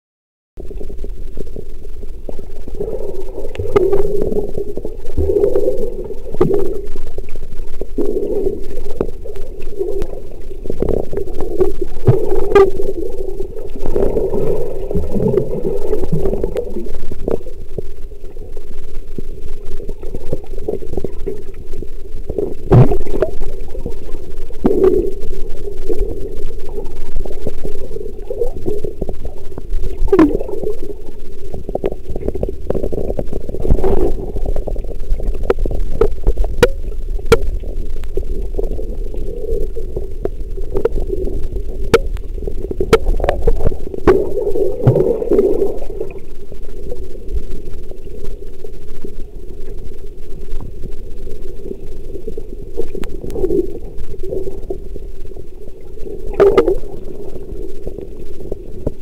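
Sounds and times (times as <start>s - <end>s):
muffled underwater rumble: 0.6s - 59.0s.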